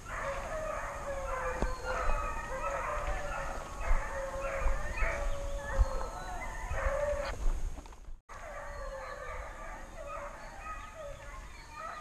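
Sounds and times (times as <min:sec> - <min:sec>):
hunting dogs baying and yelping: 0:00.0 - 0:07.5, 0:08.3 - 0:12.0.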